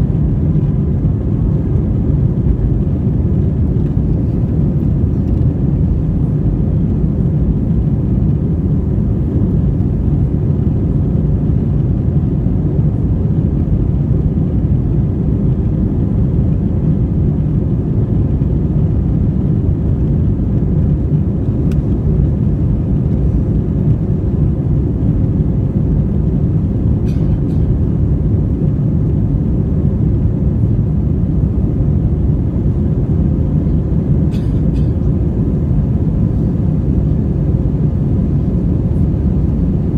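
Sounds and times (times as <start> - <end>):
deep rumble of jet engines: 0.0 - 39.9.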